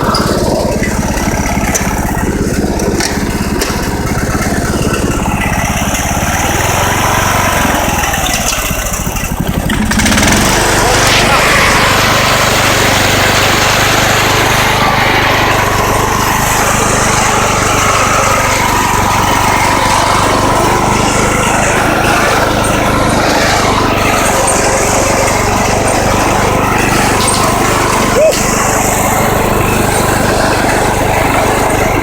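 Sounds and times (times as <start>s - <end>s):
riding mower engine running: 0.0s - 32.0s.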